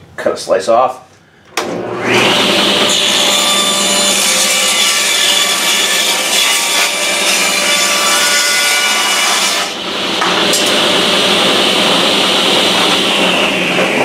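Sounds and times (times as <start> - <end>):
table saw cutting wood: 1.6 - 14.0
saw running with high whine: 1.8 - 14.0.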